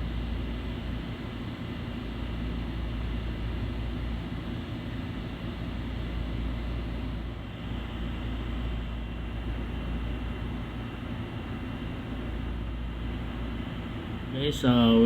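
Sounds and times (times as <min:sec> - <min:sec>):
fan whirring hum: 0:00.0 - 0:15.0.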